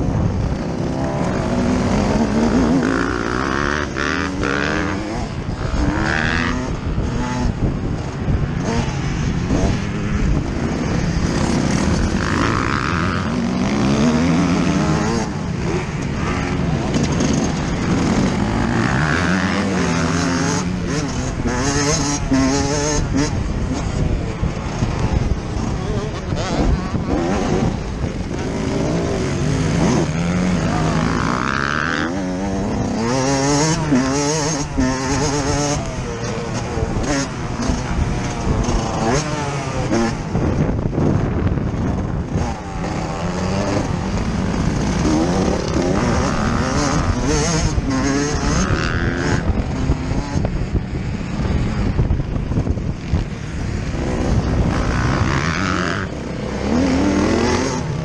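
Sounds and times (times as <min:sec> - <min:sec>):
two-stroke engine revving: 0:10.4 - 0:51.8, 0:52.9 - 0:58.0.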